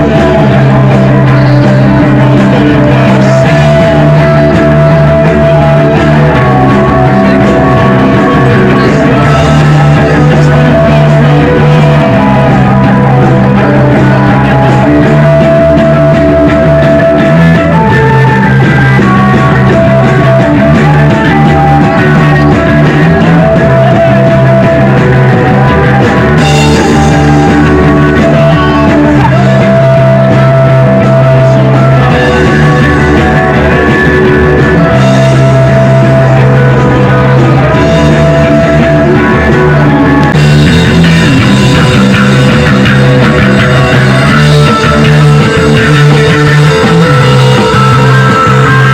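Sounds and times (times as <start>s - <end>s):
drum kit: 0.0s - 48.9s
electric guitars: 0.0s - 48.9s
person singing: 0.0s - 48.9s.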